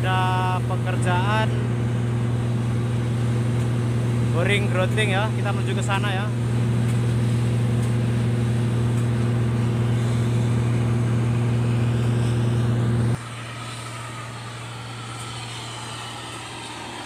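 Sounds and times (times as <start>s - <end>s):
construction machinery engines droning: 0.0s - 17.0s.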